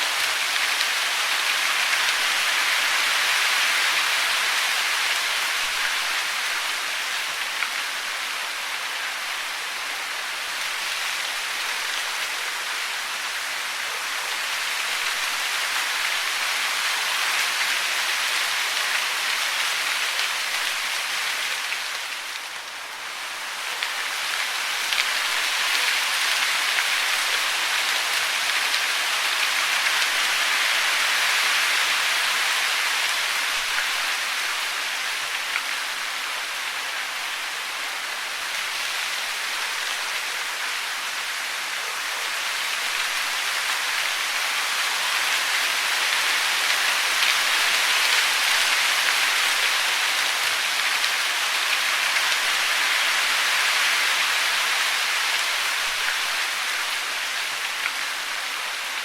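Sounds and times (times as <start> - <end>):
falling water hiss: 0.0 - 59.0.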